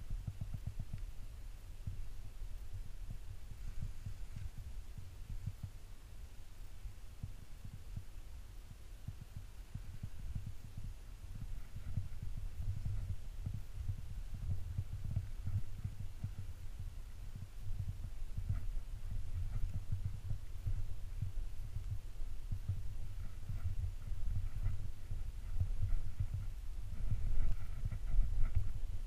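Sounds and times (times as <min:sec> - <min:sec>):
muffled thumps and rumble: 0:00.0 - 0:05.8, 0:08.7 - 0:29.0.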